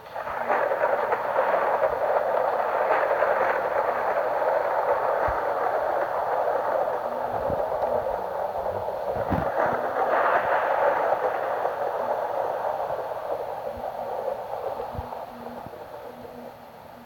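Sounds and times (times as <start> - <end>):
rolling thunder: 0.0 - 17.0.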